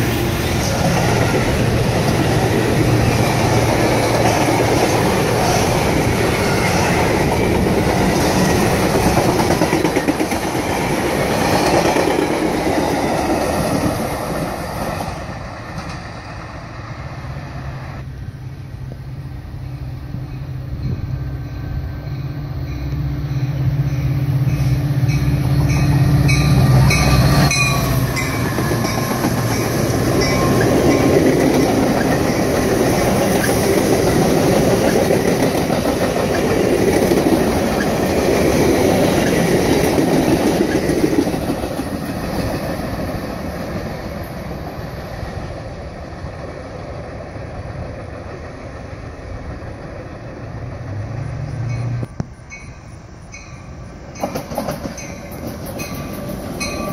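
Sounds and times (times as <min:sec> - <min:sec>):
train passing: 0:00.0 - 0:56.9
wheels rumbling and clicking on rails: 0:00.0 - 0:56.9.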